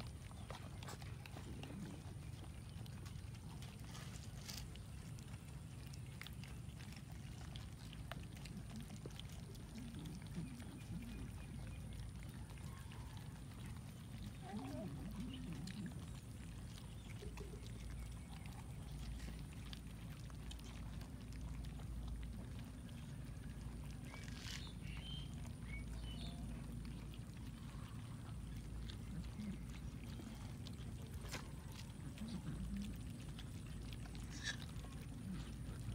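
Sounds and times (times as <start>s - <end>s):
cats chewing and smacking: 0.0s - 35.9s.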